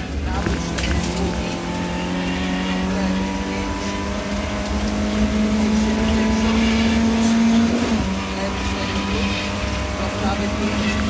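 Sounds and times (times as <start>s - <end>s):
car engine revving: 0.0s - 11.0s
road noise rumble: 0.0s - 11.0s.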